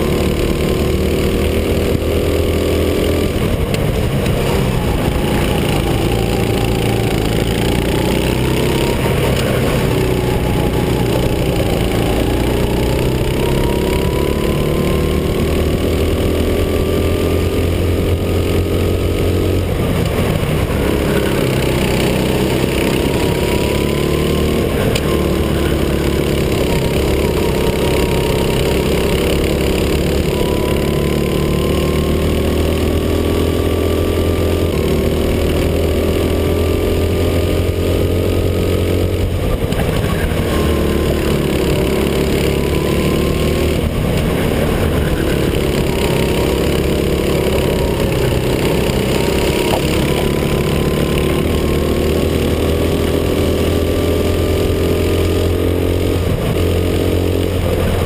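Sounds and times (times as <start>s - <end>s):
go-kart engine revving: 0.0s - 58.0s
wind and tyre noise: 0.0s - 58.0s.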